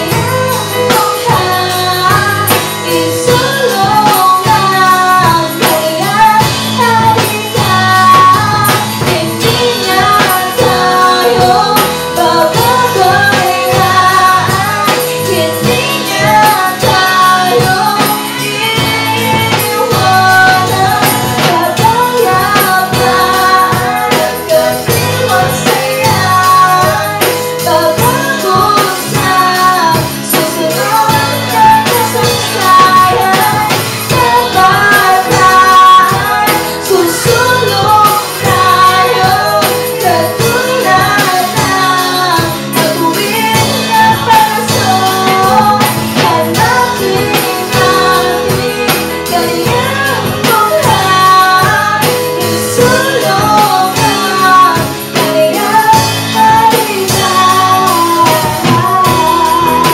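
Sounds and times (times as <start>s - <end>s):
live rock band: 0.0s - 59.9s
woman singing into a microphone: 0.0s - 59.9s.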